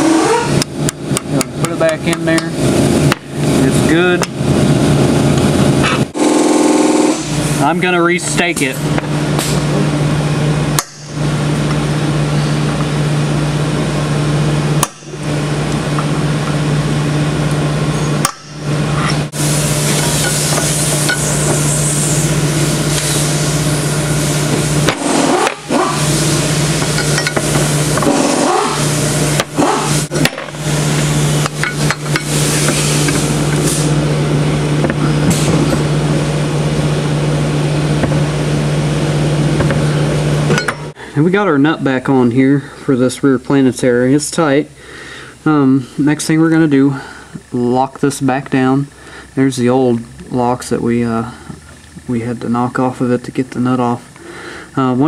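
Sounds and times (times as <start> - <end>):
mechanical hum with hiss: 0.0 - 55.0.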